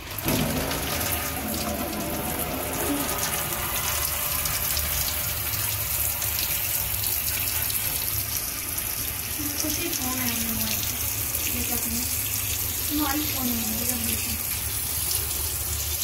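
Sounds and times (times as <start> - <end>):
water splashing into steel sink: 0.0 - 16.0.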